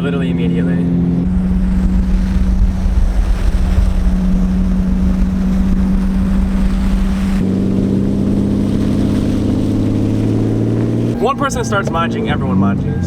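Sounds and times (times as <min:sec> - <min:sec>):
car engine running: 0:00.0 - 0:13.0
road rumble: 0:00.0 - 0:13.0.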